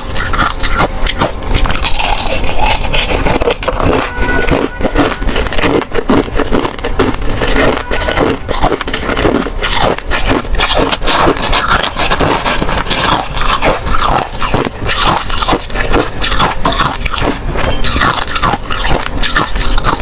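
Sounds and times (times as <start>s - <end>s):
ice crunched and chewed: 0.0s - 20.0s
wet mouth noises: 0.0s - 20.0s.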